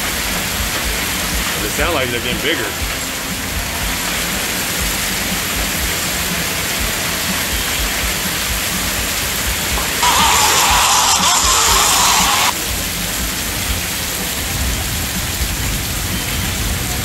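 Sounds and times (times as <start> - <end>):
heavy rain and hail: 0.0 - 17.0.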